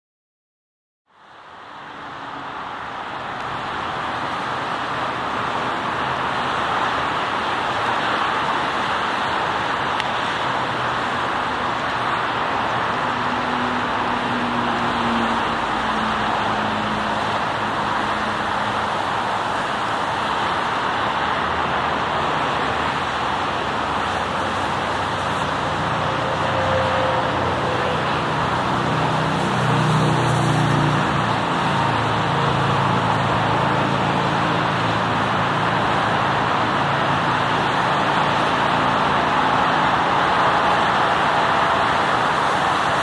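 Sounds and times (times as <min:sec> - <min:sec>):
road traffic roar: 0:01.1 - 0:43.0.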